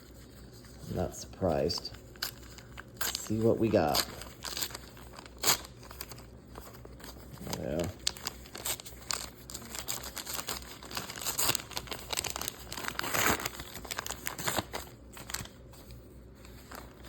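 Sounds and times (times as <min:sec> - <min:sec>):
wrapper crinkling and tearing: 0:01.6 - 0:15.6.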